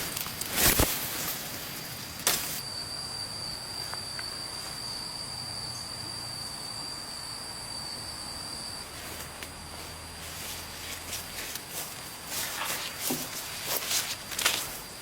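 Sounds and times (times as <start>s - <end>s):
insect high-pitched call: 0.0s - 15.0s.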